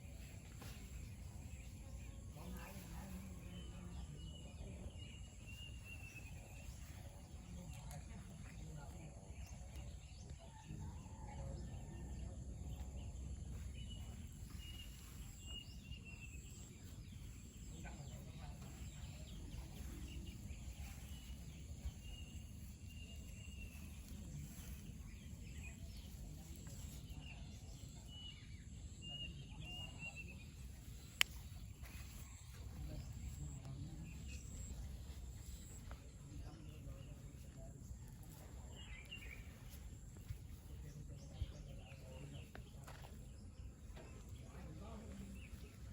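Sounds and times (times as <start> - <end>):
birds singing: 0.0 - 45.9.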